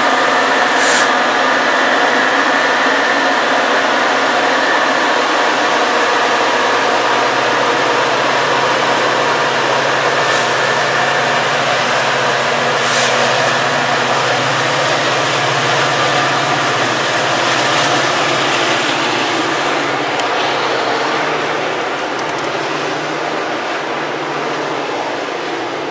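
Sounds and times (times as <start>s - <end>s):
diesel locomotive engine drone: 0.0s - 25.9s
steady whine: 0.0s - 25.9s
train passing by: 0.0s - 25.9s.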